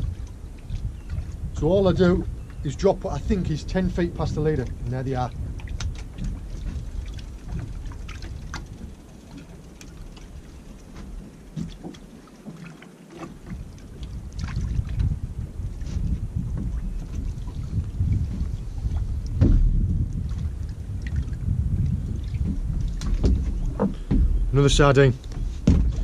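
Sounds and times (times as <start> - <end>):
water slapping against hull: 0.0 - 26.0
wind buffeting microphone: 0.0 - 26.0.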